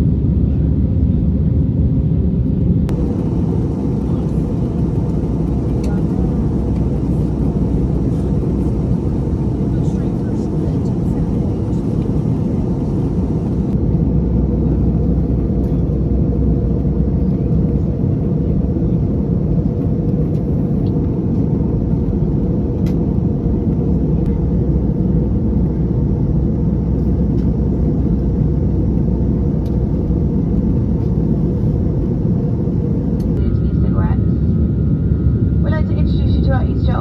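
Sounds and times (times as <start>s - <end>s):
jet airliner cabin drone: 0.0s - 37.0s.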